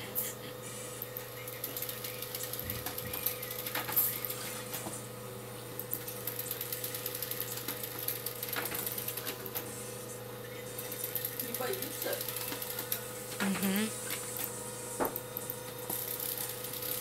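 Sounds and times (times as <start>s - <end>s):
laser printer humming and clicking: 0.0s - 17.0s.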